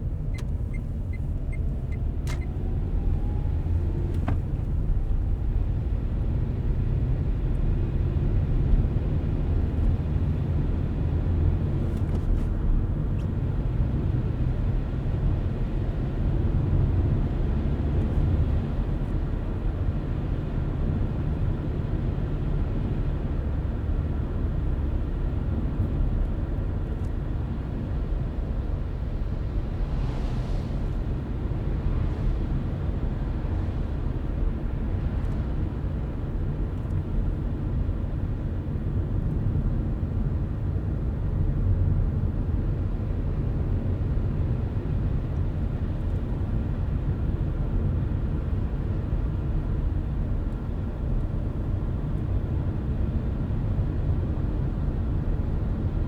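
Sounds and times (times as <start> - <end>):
car road and tyre rumble: 0.0 - 56.0.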